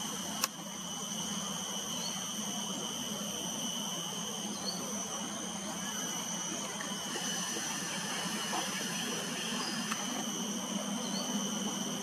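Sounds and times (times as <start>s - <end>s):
ambient hiss: 0.0s - 12.0s
high insect drone: 0.0s - 12.0s.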